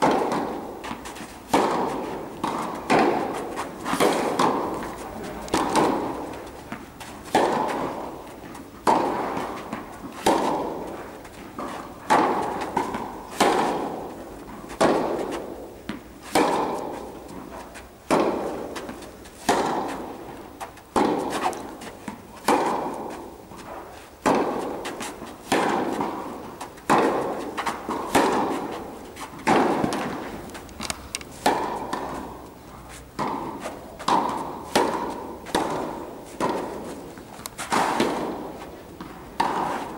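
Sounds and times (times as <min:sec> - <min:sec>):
rackets hitting tennis ball: 0:00.0 - 0:39.9.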